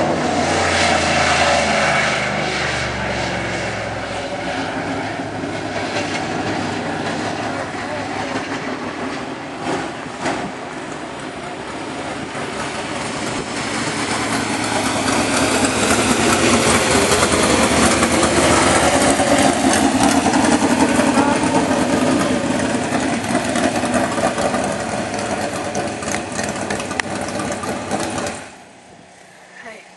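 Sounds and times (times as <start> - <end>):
race car engine passing by: 0.0 - 29.5.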